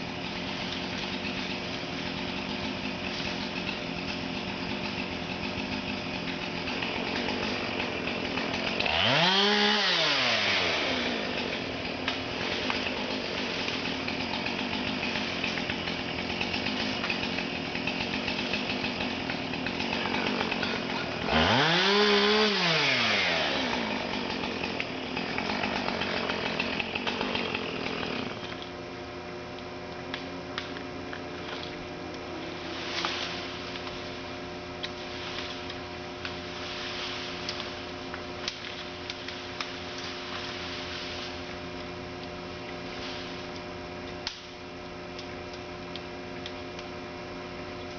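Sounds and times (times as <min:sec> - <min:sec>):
chainsaw running: 0:00.0 - 0:47.9.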